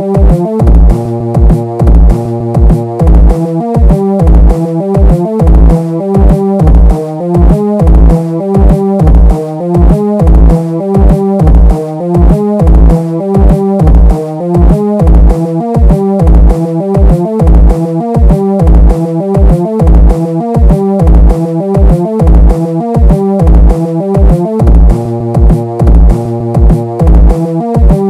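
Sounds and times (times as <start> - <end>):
electronic synthesizer music: 0.0 - 28.0
kick drum beat: 0.0 - 28.0
deep sliding bass: 0.2 - 28.0.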